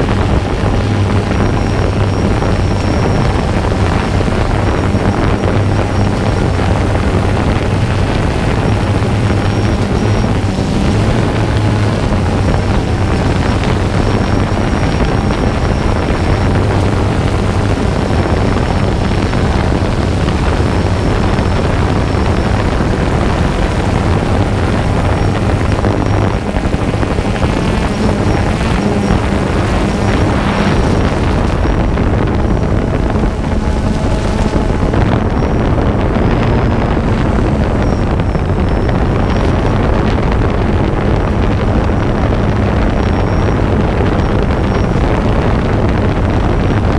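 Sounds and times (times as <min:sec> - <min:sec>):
drone propellers and motors: 0:00.0 - 0:46.9
wind noise on microphone: 0:00.0 - 0:46.9.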